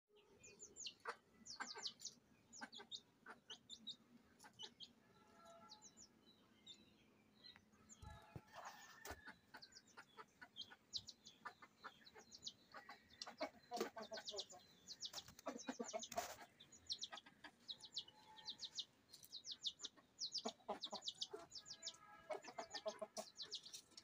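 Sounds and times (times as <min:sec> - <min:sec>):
chicks peeping: 0:00.2 - 0:24.0
hen clucking softly: 0:00.8 - 0:05.6, 0:07.9 - 0:24.0.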